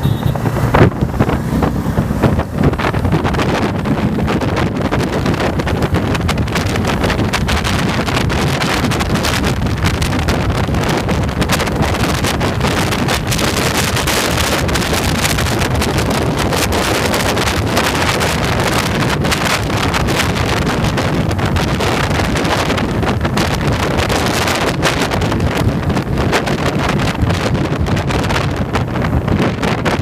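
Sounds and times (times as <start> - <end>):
motorcycle engine: 0.0 - 29.8
road noise: 0.0 - 30.0
wind buffeting microphone: 0.0 - 30.0.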